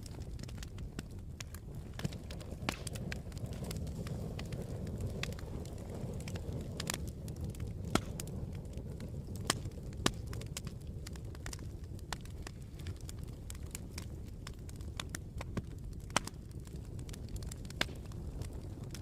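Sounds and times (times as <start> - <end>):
campfire rumble: 0.0 - 19.0
fire crackling and popping: 0.0 - 19.0.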